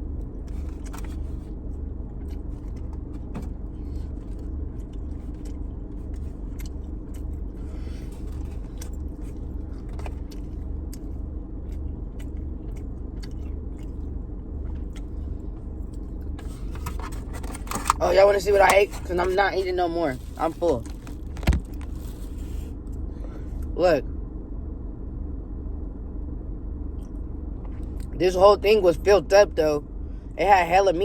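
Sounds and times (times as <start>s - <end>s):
car engine rumble from inside: 0.0s - 31.0s.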